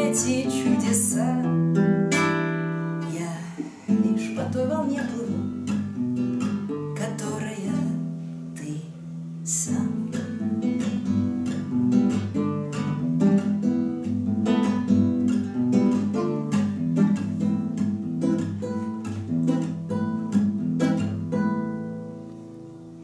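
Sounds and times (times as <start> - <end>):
classical guitar playing: 0.0 - 23.0.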